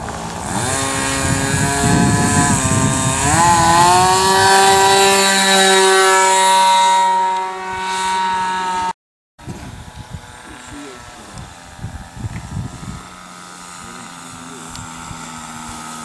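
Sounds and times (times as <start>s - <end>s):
model airplane engine revving: 0.0s - 16.0s.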